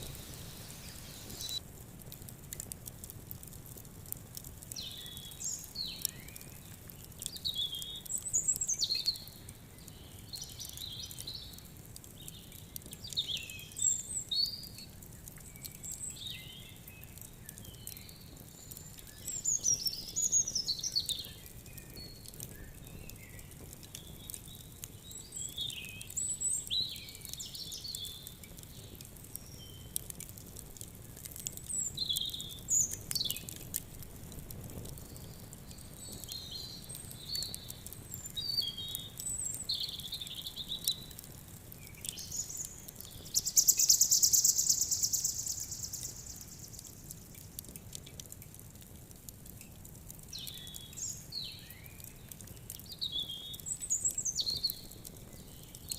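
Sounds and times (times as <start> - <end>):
small birds chirping: 0.0 - 1.6, 4.7 - 30.3, 31.4 - 33.7, 34.9 - 48.3, 50.2 - 55.9
wood fire crackling: 0.0 - 55.9.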